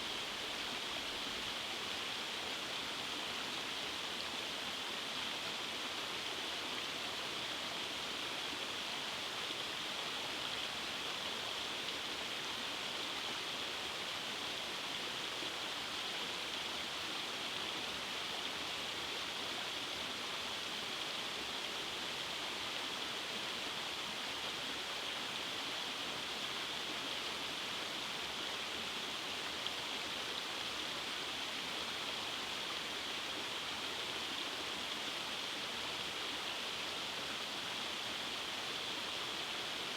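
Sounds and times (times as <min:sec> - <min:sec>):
stream rushing over cascades: 0:00.0 - 0:39.9.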